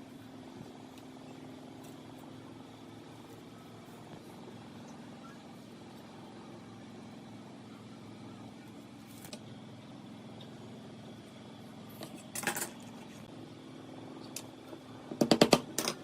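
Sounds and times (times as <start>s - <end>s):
motor humming: 0.0s - 15.2s.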